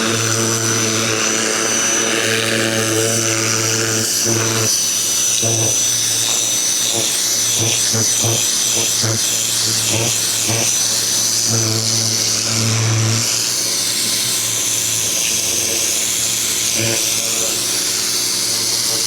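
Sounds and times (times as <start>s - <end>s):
pressure washer water jet hissing: 0.0s - 19.0s
pump motor pulsing: 0.0s - 19.0s.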